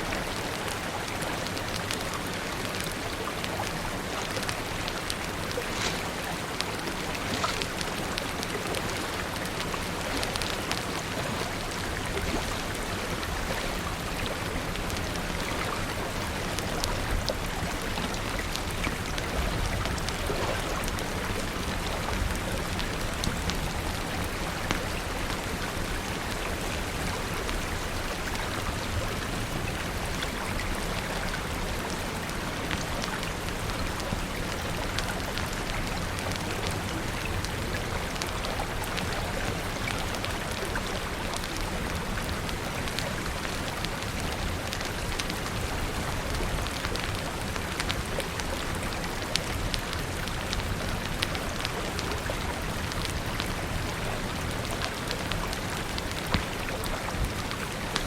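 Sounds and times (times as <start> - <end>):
steady rain falling: 0.0 - 58.0
wood fire crackling: 0.2 - 58.0.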